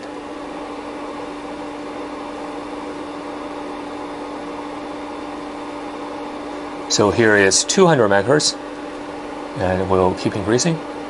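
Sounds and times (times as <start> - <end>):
steady fan hum: 0.0 - 11.0.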